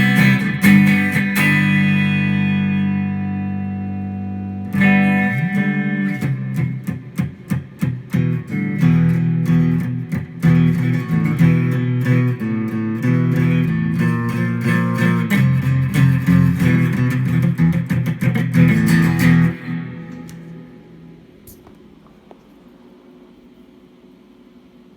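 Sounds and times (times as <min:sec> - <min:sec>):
guitar picking and strumming: 0:00.0 - 0:22.4.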